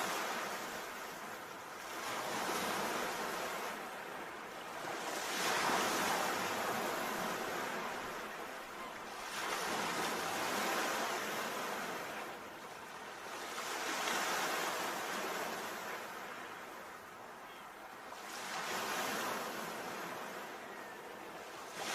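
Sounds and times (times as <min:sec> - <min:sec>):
sea waves breaking on shore: 0:00.0 - 0:21.9.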